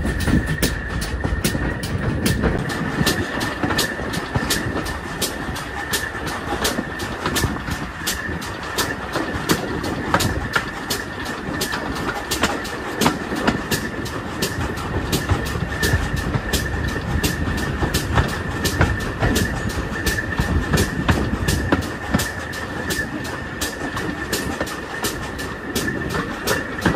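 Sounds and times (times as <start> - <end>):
steam train rumble: 0.0 - 26.9
train wheels clicking: 0.0 - 26.9.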